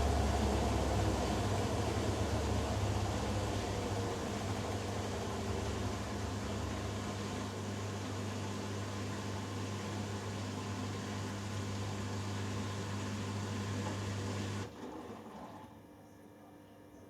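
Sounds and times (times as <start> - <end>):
washing machine spin cycle hum: 0.0 - 17.0.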